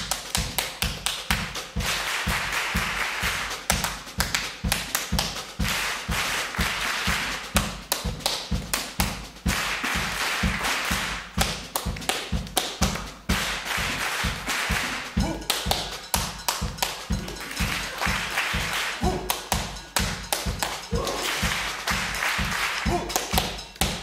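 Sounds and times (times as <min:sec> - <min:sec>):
hand claps and body slaps: 0:00.0 - 0:24.0.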